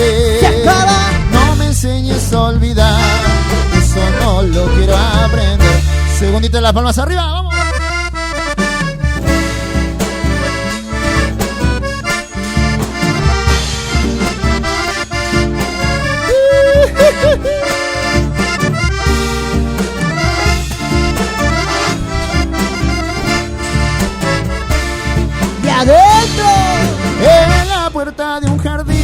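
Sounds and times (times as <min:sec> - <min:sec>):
steady percussion beat: 0:00.0 - 0:06.6, 0:07.6 - 0:29.0
accordion melody: 0:00.0 - 0:29.0
bass line: 0:00.0 - 0:29.0.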